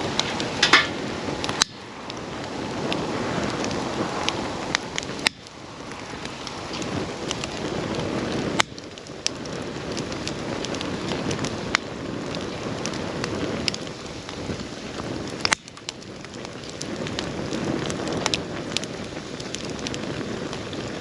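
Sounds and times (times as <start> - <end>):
campfire hissing: 0.0 - 21.0
fire crackling and popping: 0.0 - 21.0.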